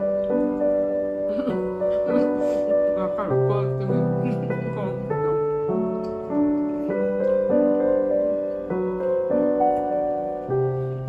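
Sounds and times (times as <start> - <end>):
slow piano piece: 0.0 - 11.0.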